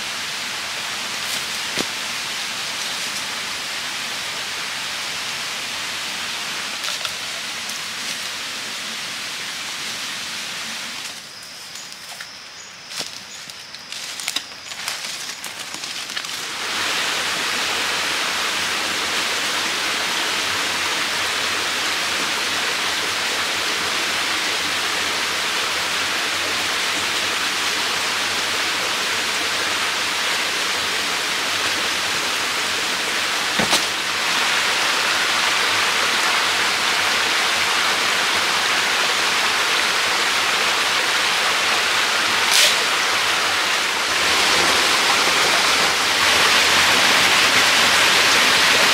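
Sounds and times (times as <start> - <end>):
waterfall and stream rushing: 0.0 - 12.2, 13.9 - 48.9.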